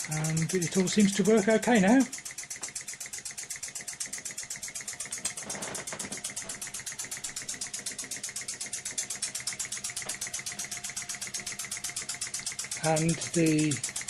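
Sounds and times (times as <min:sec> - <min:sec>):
small model engine clattering: 0:00.0 - 0:14.0.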